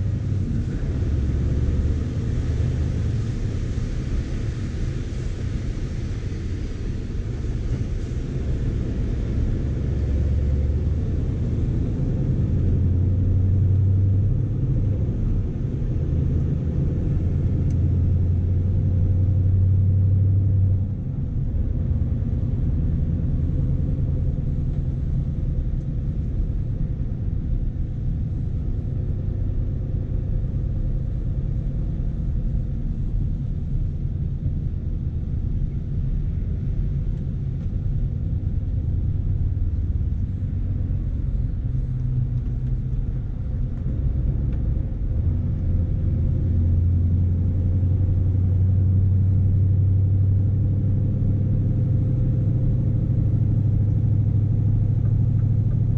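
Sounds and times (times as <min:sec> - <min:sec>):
diesel truck engine drone: 0:00.0 - 0:55.9.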